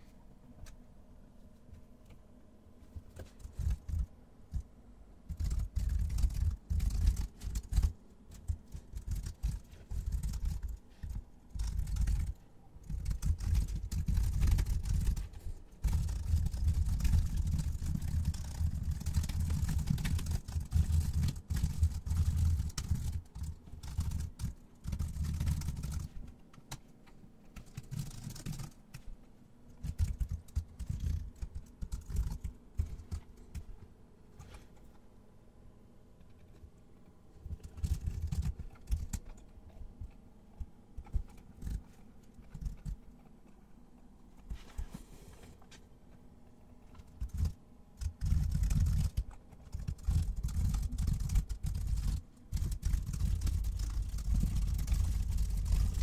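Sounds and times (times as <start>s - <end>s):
computer keyboard typing: 3.0s - 33.8s, 37.4s - 43.6s, 46.9s - 56.0s.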